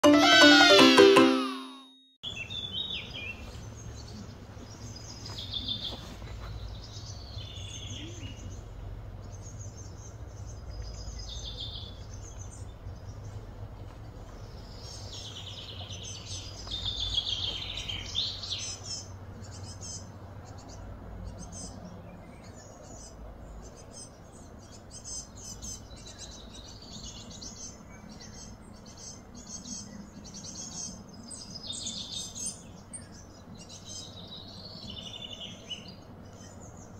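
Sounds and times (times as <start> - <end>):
birds chirping and calling: 2.3 - 36.9.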